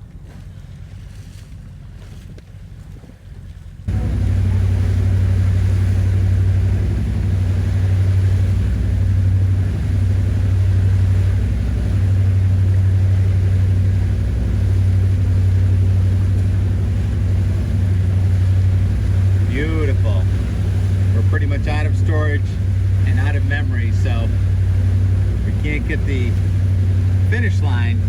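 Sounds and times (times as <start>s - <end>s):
motorboat engine droning: 0.0s - 28.0s.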